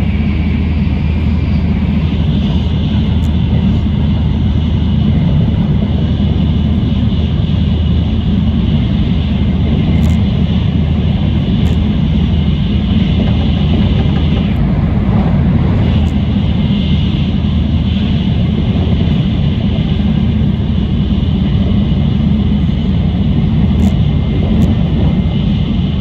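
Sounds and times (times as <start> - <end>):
train cabin rumble with hiss: 0.0 - 26.0.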